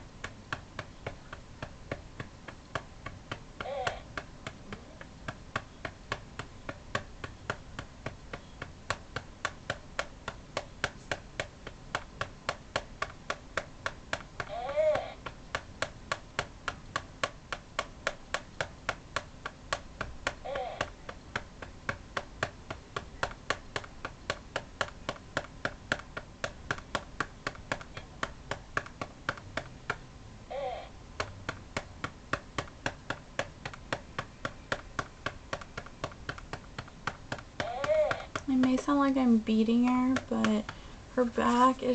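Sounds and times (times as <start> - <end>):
patting on hard plastic: 0.0 - 41.9.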